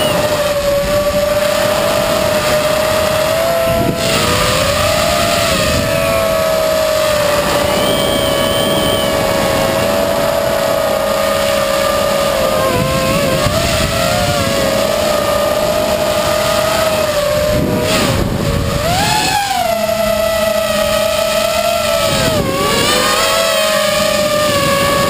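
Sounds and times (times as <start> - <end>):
electric motor whine: 0.0 - 25.0
wind rushing past microphone: 0.0 - 25.0.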